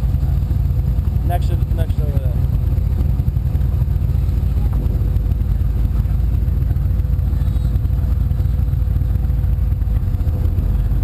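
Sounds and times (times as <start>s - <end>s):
powerboat engines idling: 0.0s - 11.0s.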